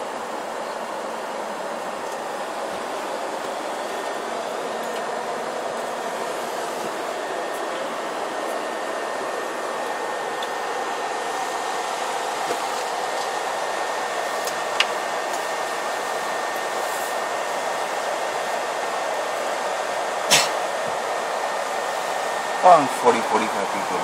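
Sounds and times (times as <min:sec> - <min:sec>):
rushing air from ventilation: 0:00.0 - 0:24.0.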